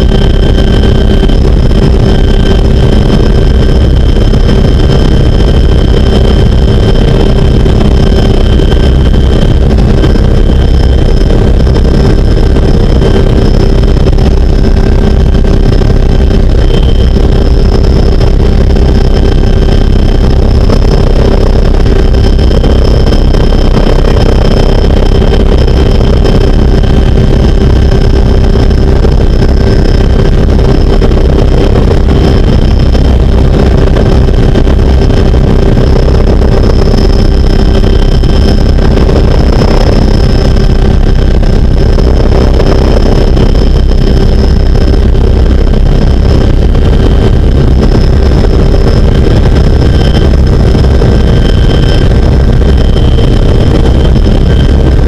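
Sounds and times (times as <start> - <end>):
helicopter cabin drone: 0.0 - 55.0
high steady whining tones: 0.0 - 55.0.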